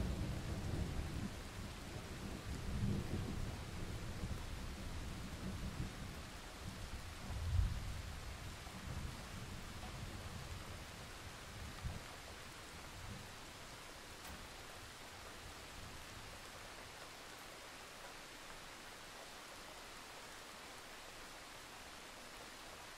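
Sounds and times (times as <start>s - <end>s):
steady hiss: 0.0s - 22.9s.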